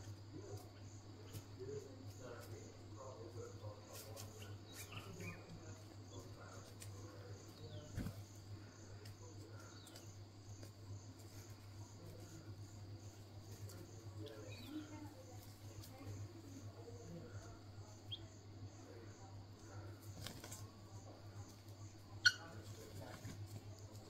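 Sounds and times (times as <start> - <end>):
faint insects chirping: 0.0 - 24.0.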